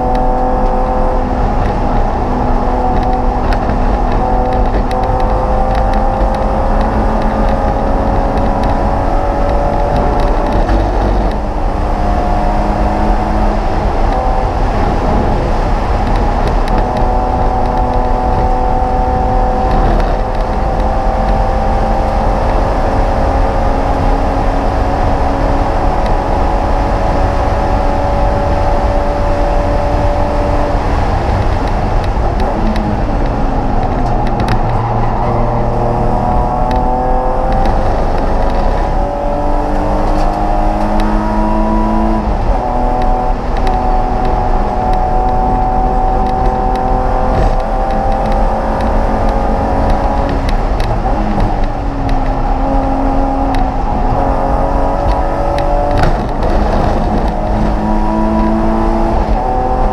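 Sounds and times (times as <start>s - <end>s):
race car engine pulling hard: 0.0s - 59.9s
road and wind noise: 0.0s - 59.9s.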